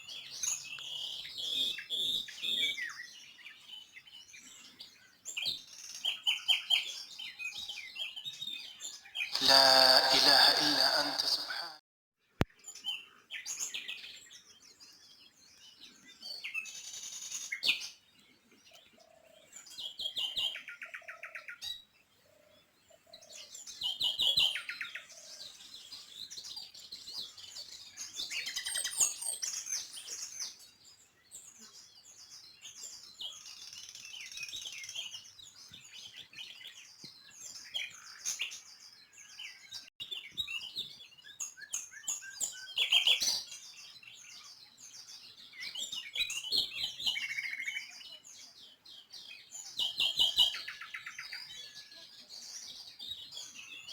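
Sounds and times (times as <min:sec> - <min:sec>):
small birds chirping: 0:00.0 - 0:11.3, 0:12.4 - 0:53.9.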